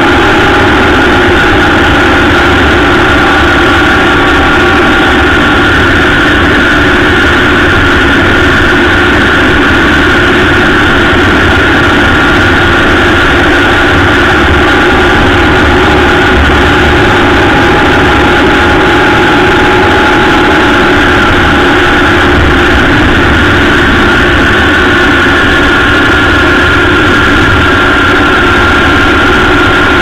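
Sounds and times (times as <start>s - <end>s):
motorcycle cruising: 0.0s - 30.0s
rushing air noise: 0.0s - 30.0s.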